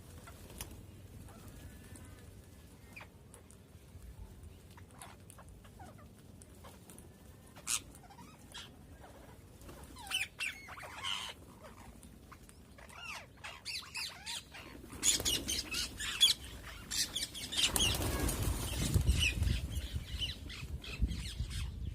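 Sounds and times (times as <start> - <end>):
parrots chirping and squawking: 1.3 - 3.6, 4.5 - 21.8.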